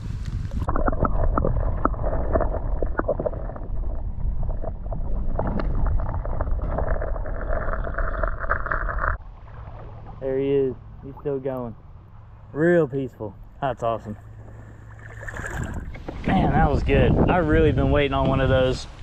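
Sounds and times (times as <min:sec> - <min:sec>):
underwater sloshing and bubbling: 0:00.1 - 0:19.0.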